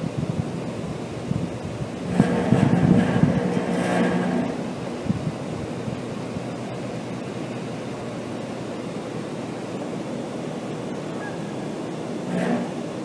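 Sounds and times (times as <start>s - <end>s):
refrigeration units droning: 0.0s - 13.0s.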